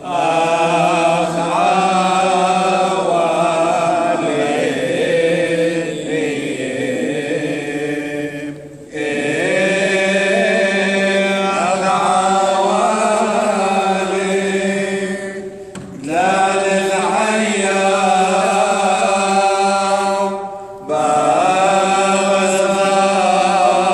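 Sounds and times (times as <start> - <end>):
men chanting a hymn in unison: 0.0 - 23.9.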